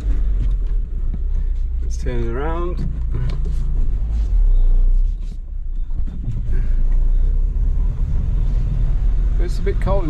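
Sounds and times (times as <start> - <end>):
van engine and road rumble: 0.0 - 10.0.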